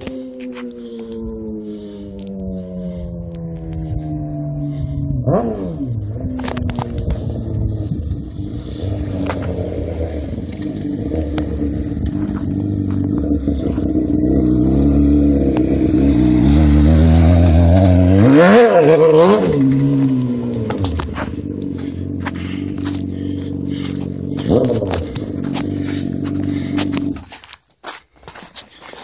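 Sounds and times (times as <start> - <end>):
motorcycle engine passing by: 1.3 - 27.3.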